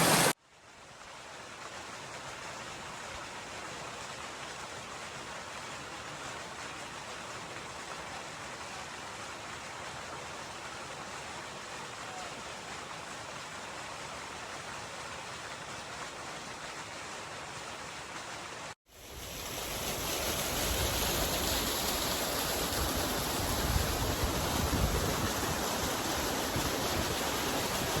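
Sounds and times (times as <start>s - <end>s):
low rumble of water: 0.0s - 28.0s
stream rushing over rocks: 0.0s - 28.0s.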